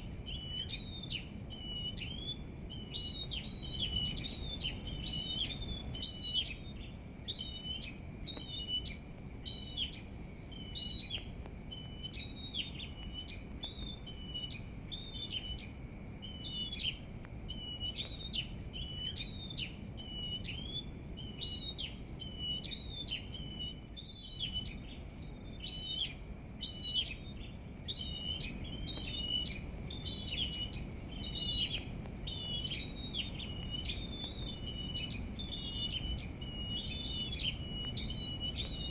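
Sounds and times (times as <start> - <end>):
small songbird chirping: 0.0 - 38.9.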